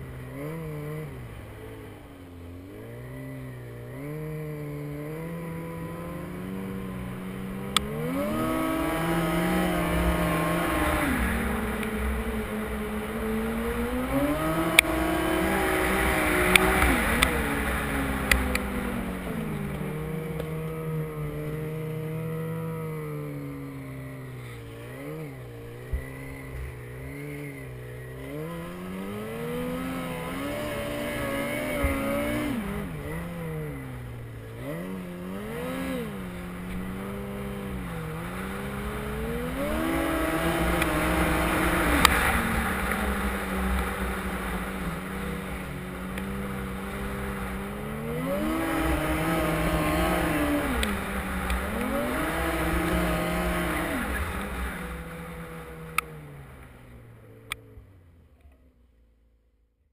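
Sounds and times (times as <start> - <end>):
snowmobile engine revving: 0.0 - 58.1.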